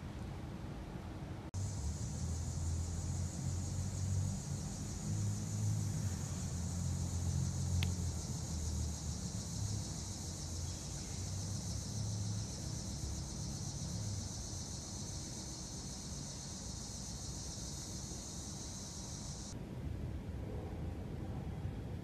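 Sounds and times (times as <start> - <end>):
low rumble of traffic: 0.0 - 22.0
insects trilling: 1.6 - 19.6.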